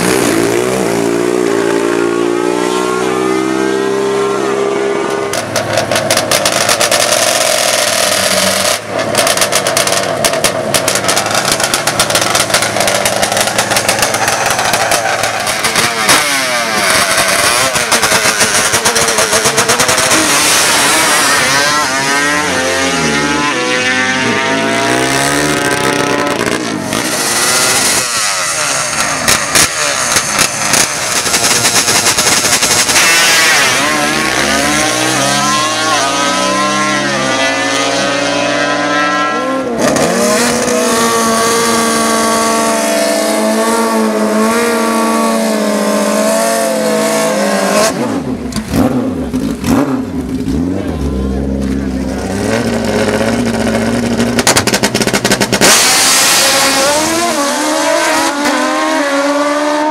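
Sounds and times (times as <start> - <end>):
racing engine accelerating: 0.0 - 59.9.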